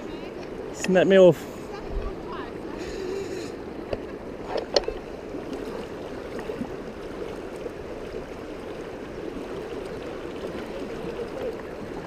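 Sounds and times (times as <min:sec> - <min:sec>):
shallow river current rushing: 0:00.0 - 0:12.0.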